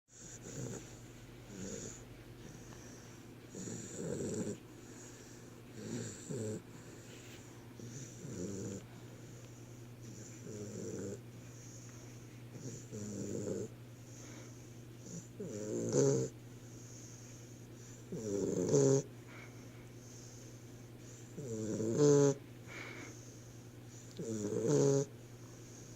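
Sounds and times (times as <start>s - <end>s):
person snoring softly: 0.1s - 20.4s, 21.0s - 25.9s.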